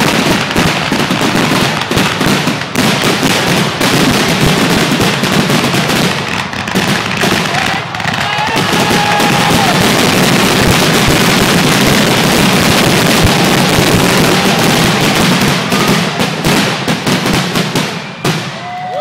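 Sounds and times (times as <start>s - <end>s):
fireworks bursts and crackle: 0.0s - 19.0s.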